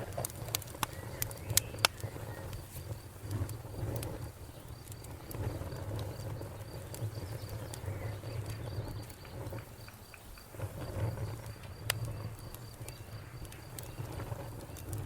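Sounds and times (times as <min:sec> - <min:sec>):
sharp pop of fire: 0:00.0 - 0:15.0
wood crackling: 0:00.0 - 0:15.0
wood fire rumbling: 0:00.0 - 0:15.0.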